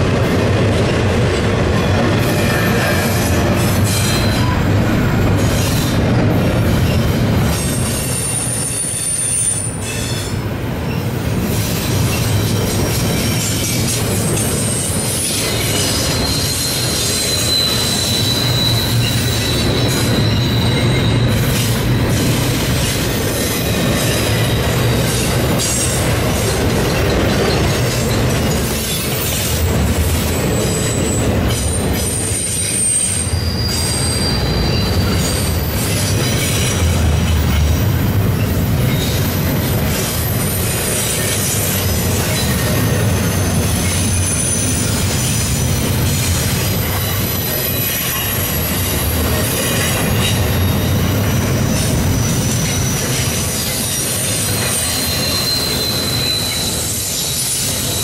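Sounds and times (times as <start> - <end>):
train wheels rumbling on rail: 0.0 - 58.0
high wheel squeals: 6.8 - 12.6, 13.2 - 26.0, 26.8 - 58.0.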